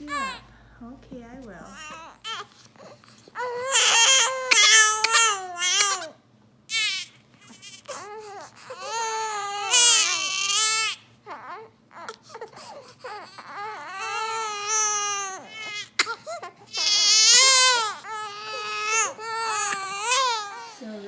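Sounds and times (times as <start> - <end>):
infant crying: 0.0 - 0.4, 1.8 - 21.0.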